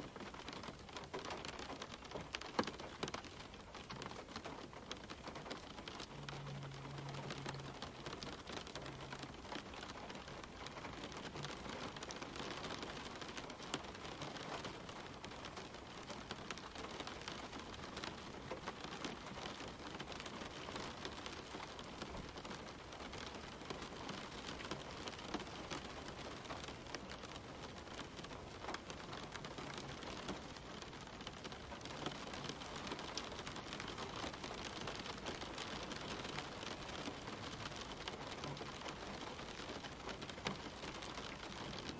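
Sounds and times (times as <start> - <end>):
rain falling on leaves: 0.0 - 41.9.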